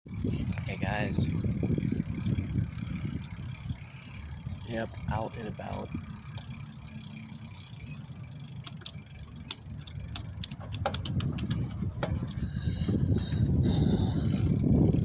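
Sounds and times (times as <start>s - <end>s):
wind on microphone: 0.1s - 6.6s, 9.4s - 15.0s
bicycle clicks and rattles: 0.1s - 15.0s
tyres rumbling: 0.1s - 15.0s.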